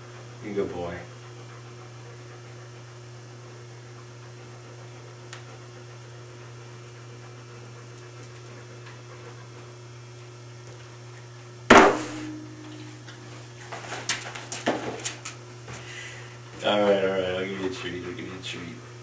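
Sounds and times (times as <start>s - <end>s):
low mains hum: 0.0s - 19.0s.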